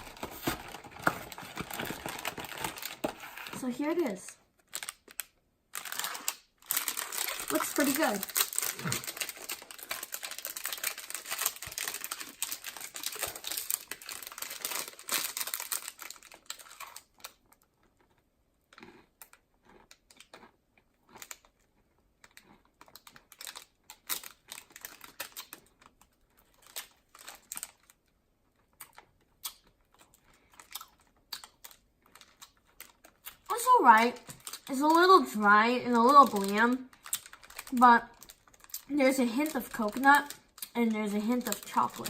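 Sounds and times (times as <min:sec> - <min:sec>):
granola bar crunching while chewed: 0:04.6 - 0:35.1, 0:35.9 - 0:42.0.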